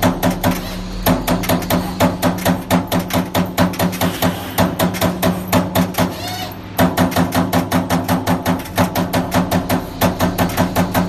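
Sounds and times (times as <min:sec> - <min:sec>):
punch press strikes: 0:00.0 - 0:11.0
steady machine hum: 0:00.0 - 0:11.0.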